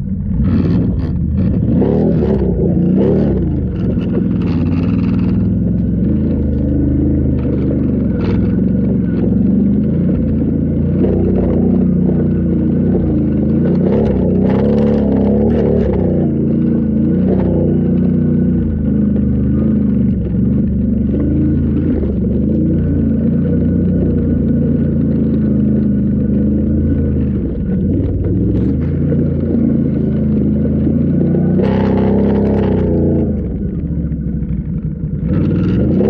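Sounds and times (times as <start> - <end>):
off-road vehicle engine revving: 0.0 - 36.0.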